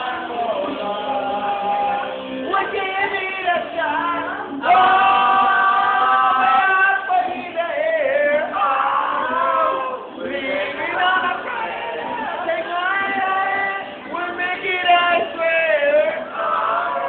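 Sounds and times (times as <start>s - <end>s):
men singing into microphone: 0.0s - 17.0s.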